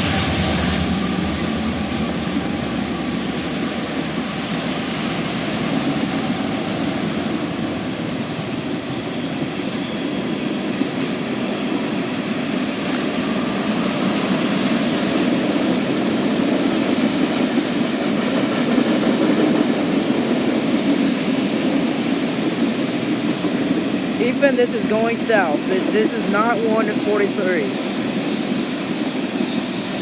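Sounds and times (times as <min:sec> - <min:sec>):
freight train rolling on rails: 0:00.0 - 0:30.0.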